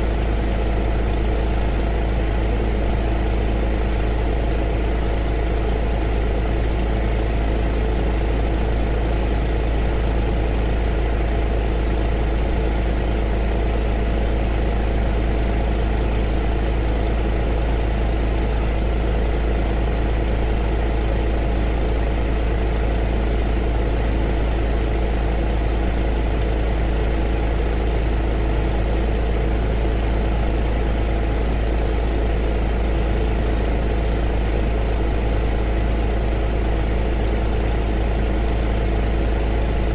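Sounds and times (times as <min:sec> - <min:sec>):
heater running with low hum: 0:00.0 - 0:39.9.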